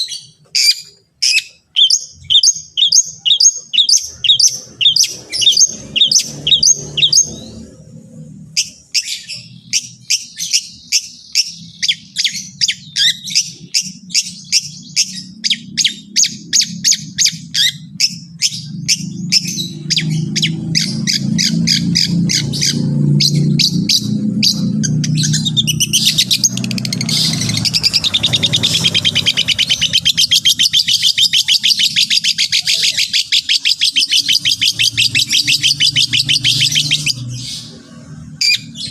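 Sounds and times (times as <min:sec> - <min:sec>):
fast chattering bird trill: 0:00.0 - 0:07.7, 0:08.5 - 0:37.7.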